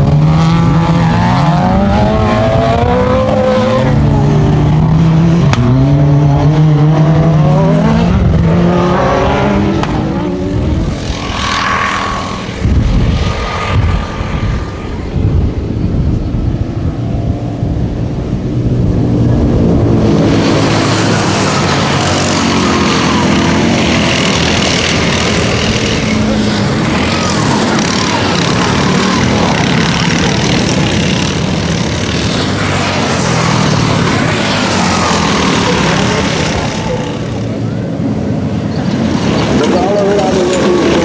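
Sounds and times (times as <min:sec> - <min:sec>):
racing buggy engines revving: 0:00.0 - 0:41.0.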